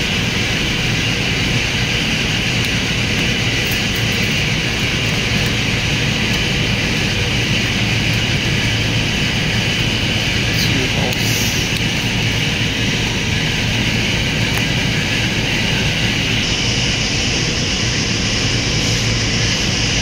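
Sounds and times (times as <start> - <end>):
loud machine drone with hiss: 0.0 - 20.0.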